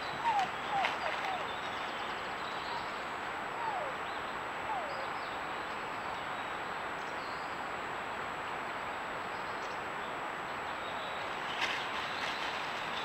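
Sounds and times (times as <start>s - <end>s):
faint high-pitched electronic whine: 0.0s - 11.3s
microphone hiss: 0.0s - 13.0s.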